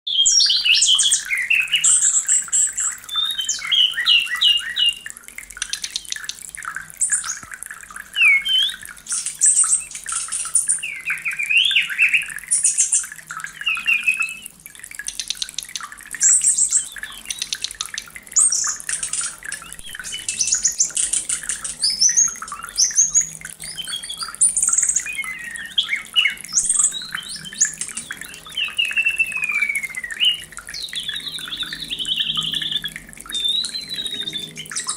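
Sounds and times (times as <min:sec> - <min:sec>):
bird singing whistles and trills: 0:00.1 - 0:34.9.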